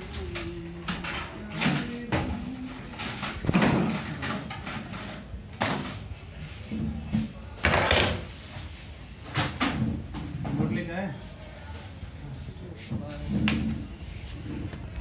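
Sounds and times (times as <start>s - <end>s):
scraping rustling noises: 0.0s - 7.6s, 8.2s - 15.0s.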